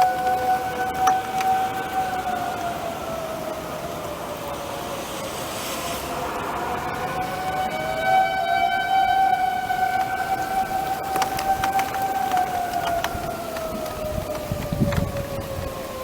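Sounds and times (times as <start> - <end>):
tornado siren: 0.0 - 16.0.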